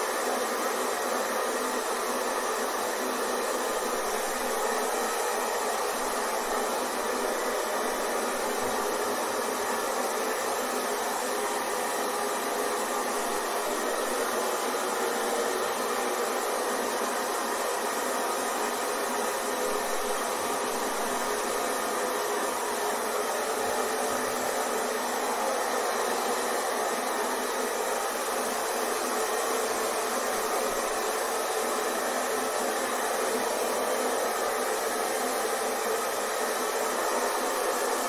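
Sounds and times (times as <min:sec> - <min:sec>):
hair dryer running: 0:00.0 - 0:38.0.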